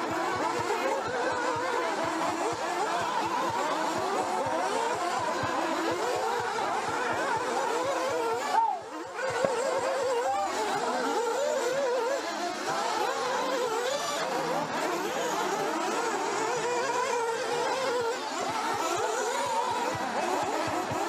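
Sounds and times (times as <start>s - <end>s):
rc car engines buzzing: 0.0s - 21.0s.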